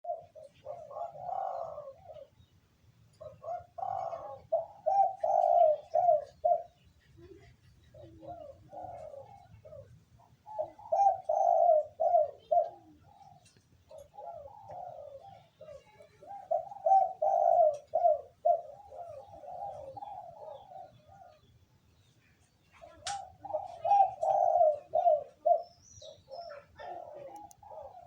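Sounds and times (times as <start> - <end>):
dove cooing: 0.0 - 2.5, 3.1 - 21.6, 22.8 - 28.0.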